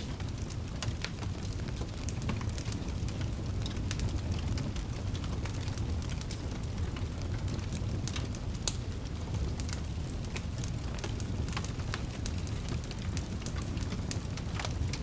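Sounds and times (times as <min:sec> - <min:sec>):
low rumble of burning logs: 0:00.0 - 0:15.0
wood fire crackling: 0:00.0 - 0:15.0.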